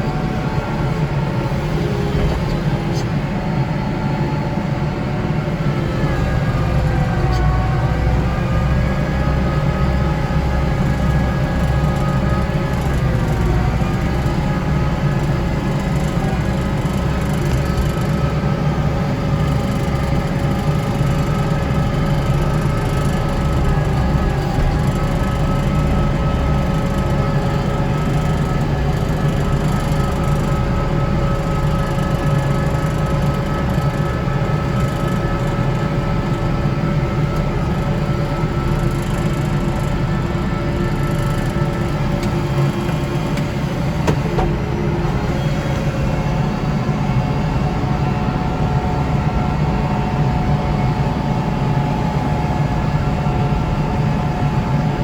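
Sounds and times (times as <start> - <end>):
steady whine: 0.0 - 55.0
tractor engine drone: 0.0 - 55.0.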